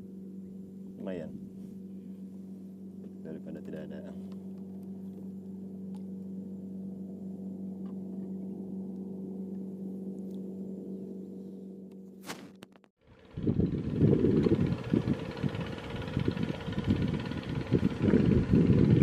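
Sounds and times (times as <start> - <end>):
engine humming steadily: 0.0 - 19.0.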